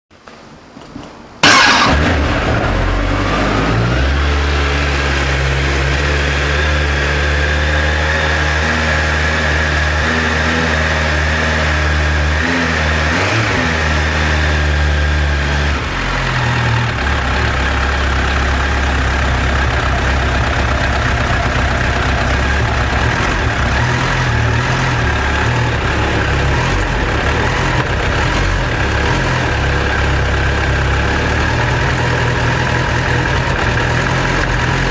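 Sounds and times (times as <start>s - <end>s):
motorcycle engine starting and idling: 1.0s - 34.9s.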